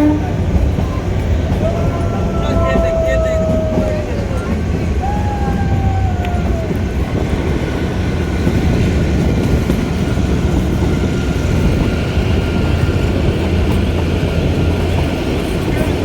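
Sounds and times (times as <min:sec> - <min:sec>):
train carriage rumbling on track: 0:00.0 - 0:16.0.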